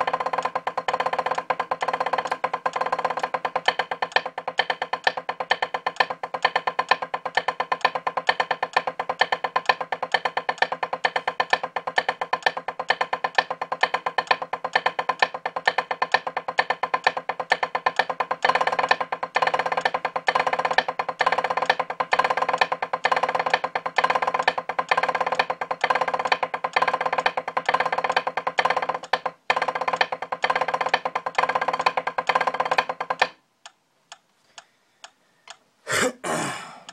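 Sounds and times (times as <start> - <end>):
drumsticks tapping practice pad: 0.0 - 36.9.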